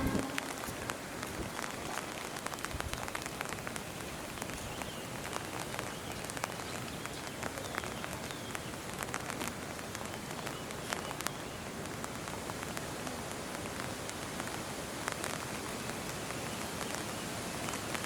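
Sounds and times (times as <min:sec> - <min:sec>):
rain hissing: 0:00.0 - 0:18.0
raindrop ticks: 0:00.0 - 0:18.0.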